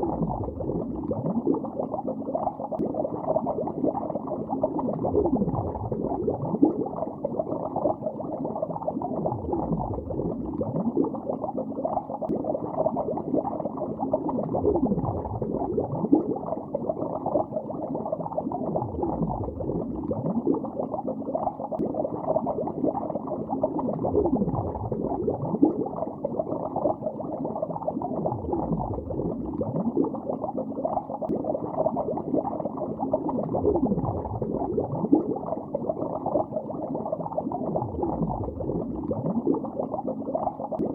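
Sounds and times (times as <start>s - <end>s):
underwater bubbling: 0.0s - 40.9s.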